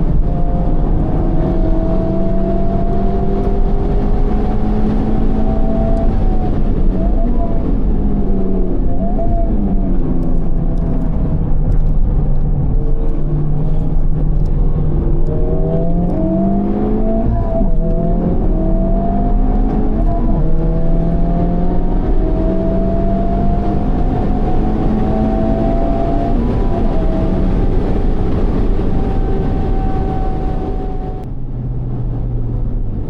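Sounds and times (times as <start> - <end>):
car engine accelerating: 0.0 - 33.0
road and wind noise: 0.0 - 33.0.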